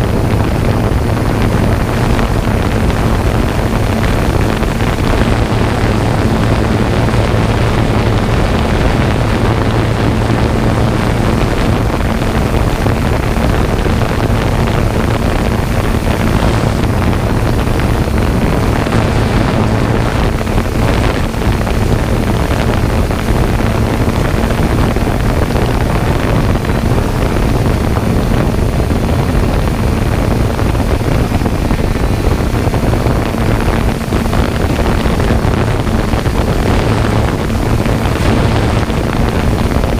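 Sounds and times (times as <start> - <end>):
loud motor hum: 0.0 - 39.9
rushing wind-like noise: 0.0 - 39.9.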